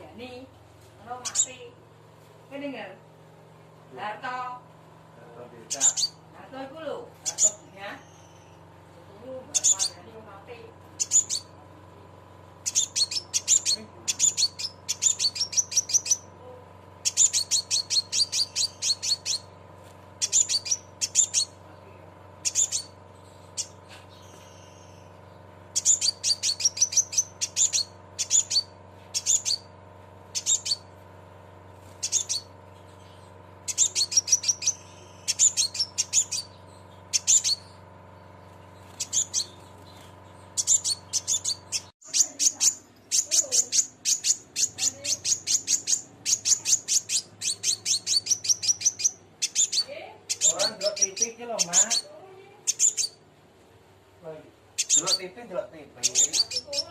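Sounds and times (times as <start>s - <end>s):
faint steady hum: 0.0s - 56.9s
bird chattering call: 1.1s - 1.8s, 5.5s - 11.6s, 12.6s - 19.6s, 20.2s - 21.6s, 22.4s - 30.9s, 31.9s - 53.3s, 54.7s - 56.9s.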